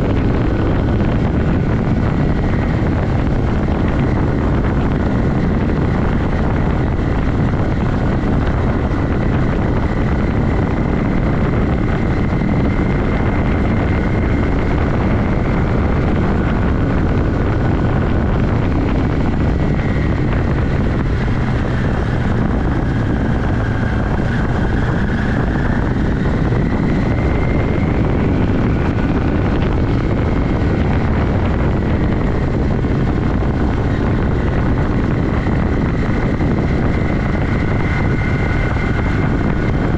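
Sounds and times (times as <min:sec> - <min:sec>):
dense even rush: 0:00.0 - 0:39.9
motorcycle engine running: 0:00.0 - 0:39.9.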